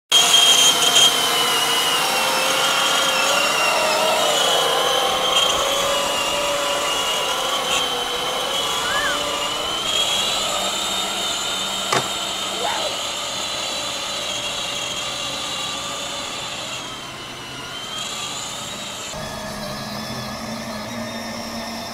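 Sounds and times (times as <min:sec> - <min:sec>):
toy car electric motors whining: 0:00.1 - 0:21.9.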